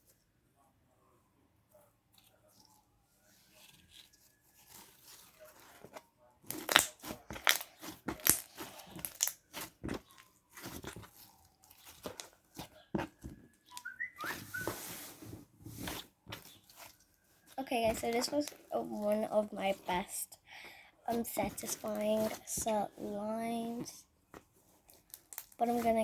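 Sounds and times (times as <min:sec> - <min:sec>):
slime squished by hand: 0:03.4 - 0:20.2, 0:21.1 - 0:26.0.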